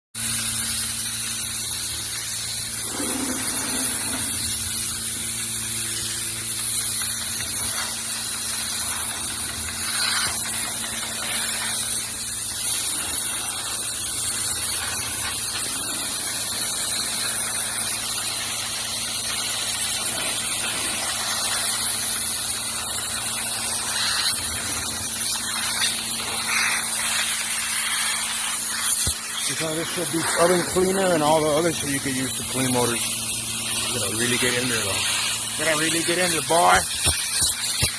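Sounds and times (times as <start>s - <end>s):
pressure washer spraying water: 0.2s - 37.9s.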